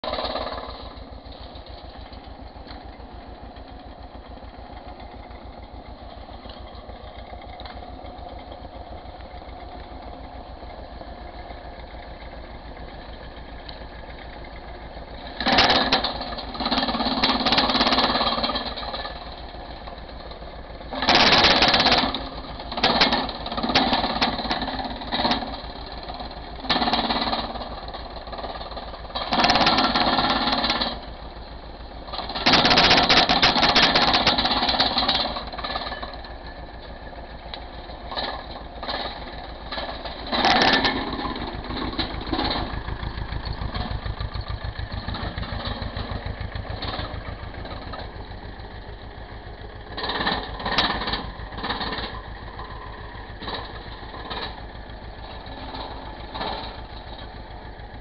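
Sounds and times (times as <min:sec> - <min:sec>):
tractor engine beat: 0:00.0 - 0:58.0.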